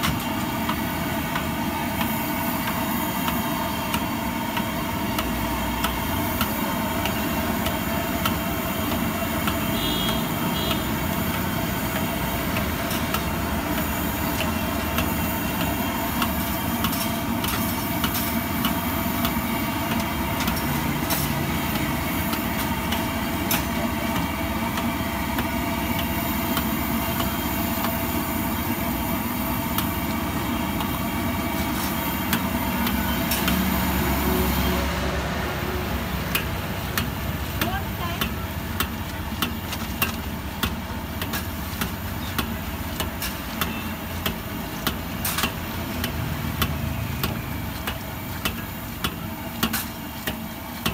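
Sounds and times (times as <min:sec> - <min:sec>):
gas burner hum: 0:00.0 - 0:50.9.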